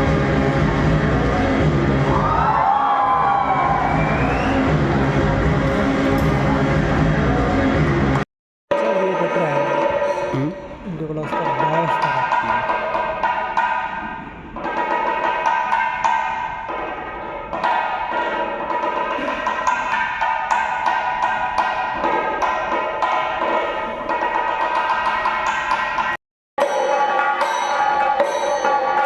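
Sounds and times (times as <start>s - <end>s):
wooden percussion strikes: 0.0s - 29.0s.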